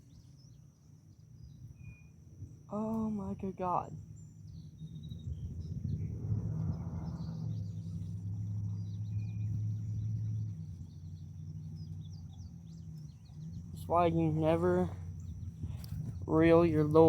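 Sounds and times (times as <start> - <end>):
faint bird chirps: 0.0 - 16.9
low rumble: 3.3 - 17.0.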